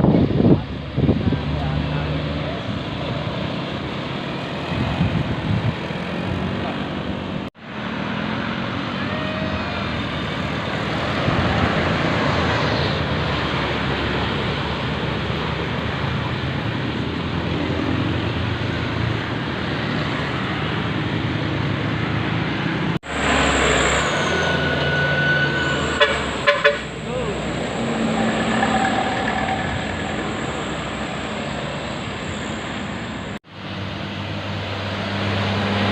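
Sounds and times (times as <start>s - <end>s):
bus road noise rushing: 0.0s - 35.9s.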